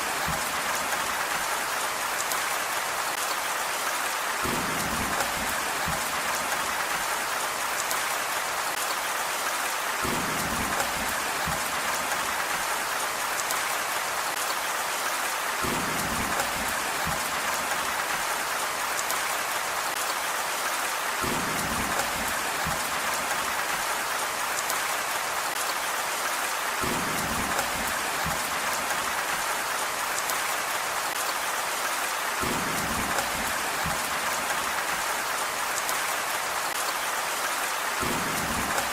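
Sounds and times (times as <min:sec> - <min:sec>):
dense rainfall: 0:00.0 - 0:38.9.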